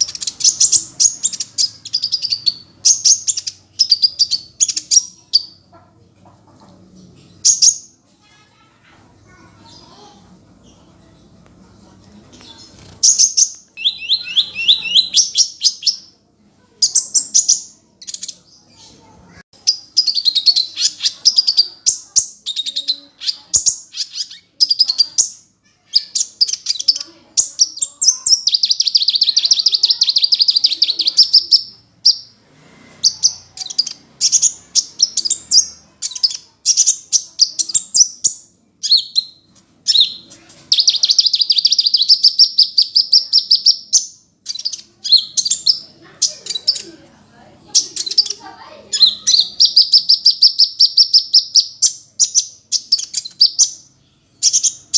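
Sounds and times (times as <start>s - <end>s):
bird trilling and chattering: 0.0s - 11.5s, 12.2s - 54.9s.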